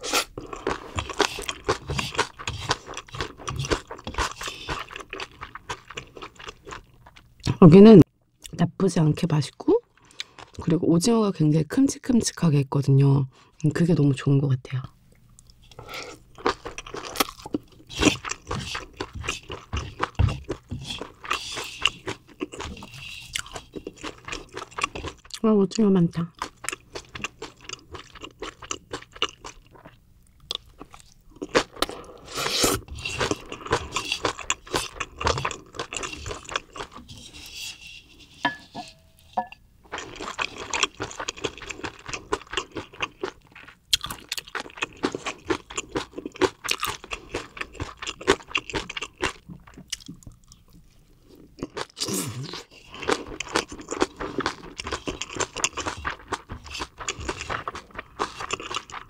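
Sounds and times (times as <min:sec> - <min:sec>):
chewing crunchy food: 0:00.0 - 0:07.6, 0:09.8 - 0:10.7, 0:15.1 - 0:25.4, 0:26.3 - 0:38.4, 0:39.8 - 0:59.0.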